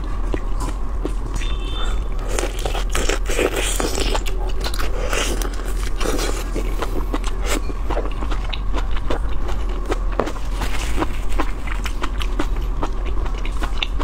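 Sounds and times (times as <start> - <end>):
person eating shrimp: 0.0 - 14.0.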